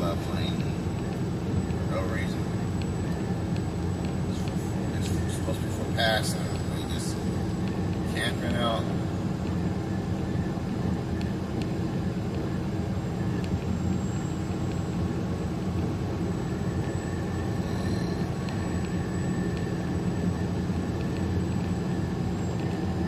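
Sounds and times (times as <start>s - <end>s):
truck engine and road drone: 0.0s - 23.0s.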